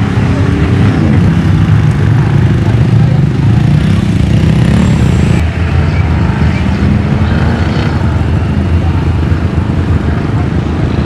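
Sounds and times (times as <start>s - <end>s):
off-road vehicle engine rumbling: 0.0s - 11.0s.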